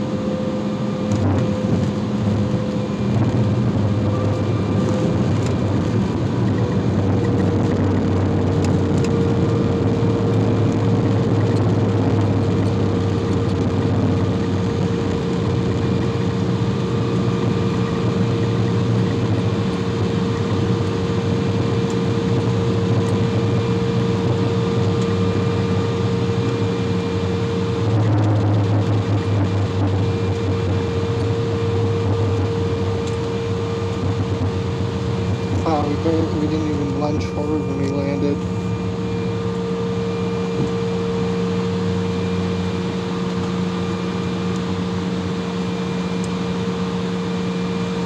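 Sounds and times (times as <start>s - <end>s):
jet engines droning in cabin: 0.0s - 48.0s.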